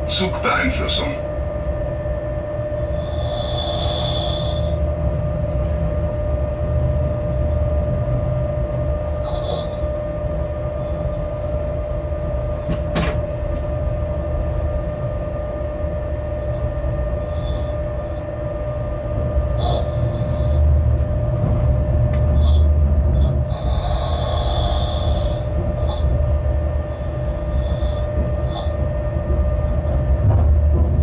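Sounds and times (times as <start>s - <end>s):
constant hum: 0.0s - 31.0s
locomotive low rumble: 0.0s - 31.0s.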